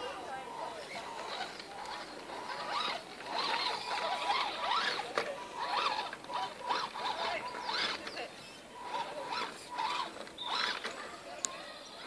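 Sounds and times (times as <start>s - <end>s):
electric motor whining: 0.5s - 8.2s, 8.8s - 11.0s.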